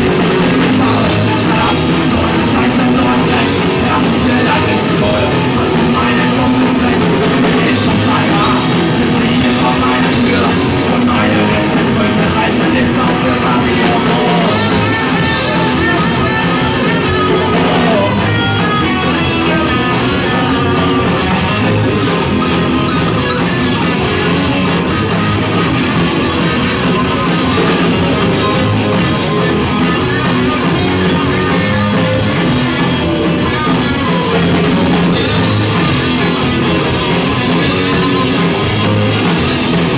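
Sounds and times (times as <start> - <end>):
bass guitar: 0.0 - 39.9
drum kit with cymbals: 0.0 - 39.9
electric guitars: 0.0 - 39.9.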